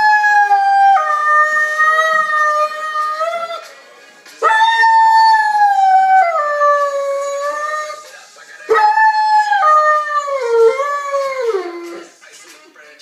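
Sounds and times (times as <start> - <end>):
dog howling: 0.0 - 3.6, 4.4 - 8.0, 8.7 - 12.0.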